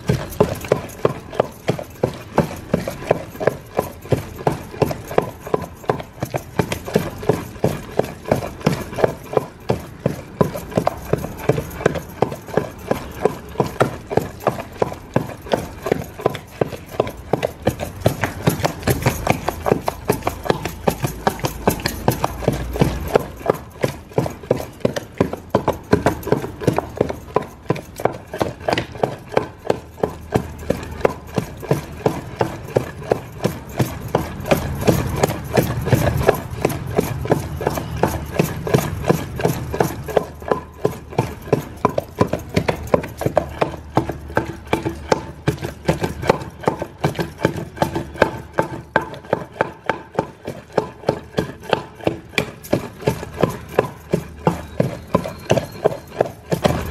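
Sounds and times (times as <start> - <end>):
rhythmic knocking: 0.0 - 49.9, 51.3 - 56.9.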